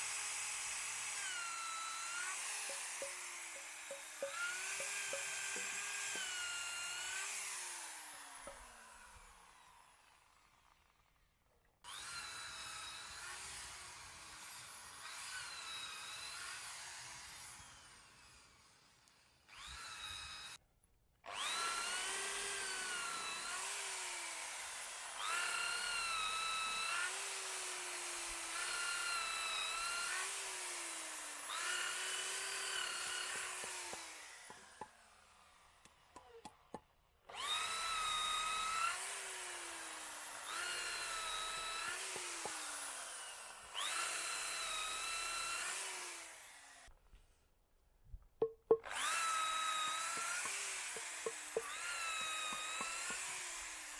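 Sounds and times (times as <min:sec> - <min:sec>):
electric drill boring into wood: 0:00.0 - 0:11.2, 0:11.9 - 0:20.6, 0:21.3 - 0:36.6, 0:37.3 - 0:46.9, 0:48.8 - 0:53.9.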